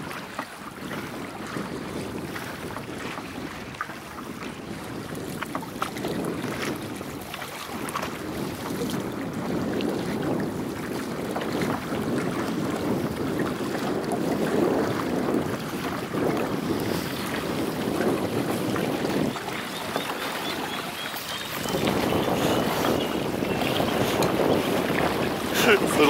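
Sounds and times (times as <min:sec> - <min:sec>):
light paddle splashes: 0:00.0 - 0:26.0
water rushing and lapping: 0:00.0 - 0:26.0
wind buffeting microphone: 0:00.0 - 0:26.0.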